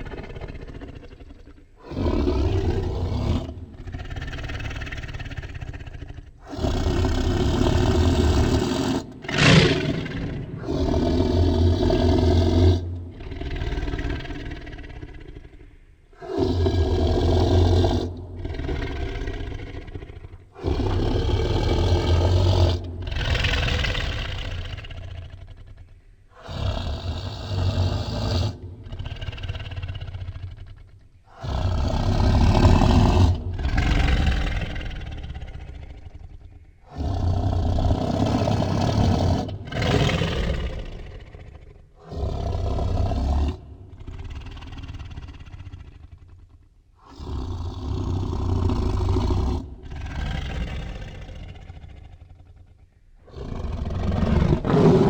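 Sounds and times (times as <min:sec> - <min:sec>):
tiger roaring: 0:00.0 - 0:55.0
tiger snarling: 0:00.0 - 0:55.0.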